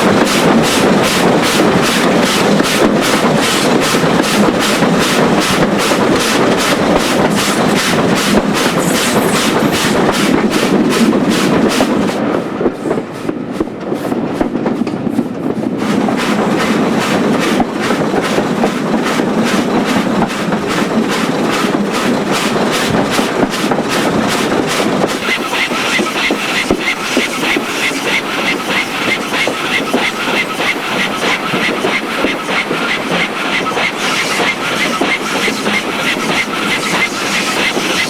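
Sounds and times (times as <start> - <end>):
coaches running on rails: 0.0 - 38.0
steam locomotive exhaust beats: 0.0 - 38.0.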